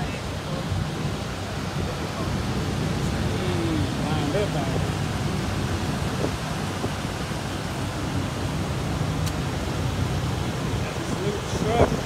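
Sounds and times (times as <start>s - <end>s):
hissing outdoor noise: 0.0s - 12.0s
low engine rumble: 0.0s - 12.0s.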